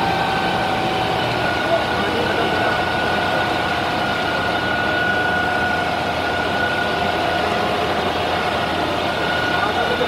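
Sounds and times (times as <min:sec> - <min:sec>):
steady high whine: 0:00.0 - 0:10.0
truck engine idling: 0:00.0 - 0:10.0.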